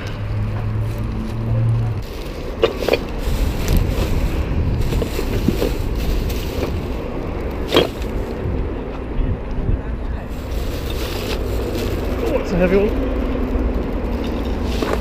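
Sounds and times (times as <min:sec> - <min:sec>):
stroller wheels rolling on pavement: 0:00.0 - 0:15.0.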